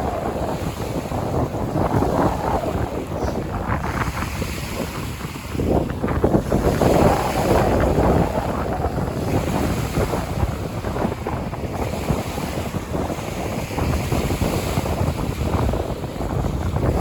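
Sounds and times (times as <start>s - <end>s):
waves washing onto shore: 0.0s - 17.0s
wind buffeting microphone: 0.0s - 17.0s.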